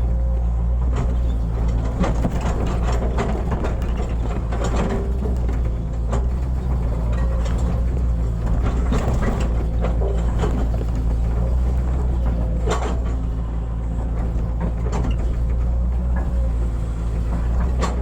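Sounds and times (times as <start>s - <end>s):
excavator diesel engine running: 0.0s - 18.0s
machine knocks and clanks: 0.8s - 18.0s.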